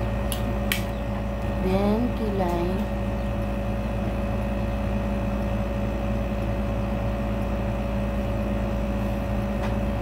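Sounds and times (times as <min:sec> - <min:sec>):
mechanical hum: 0:00.0 - 0:10.0
mid-pitched whine: 0:00.0 - 0:10.0.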